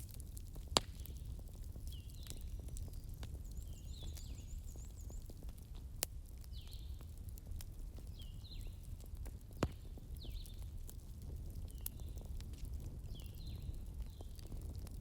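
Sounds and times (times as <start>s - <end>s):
sharp fire pops: 0.0s - 15.0s
wood fire crackling: 0.0s - 15.0s.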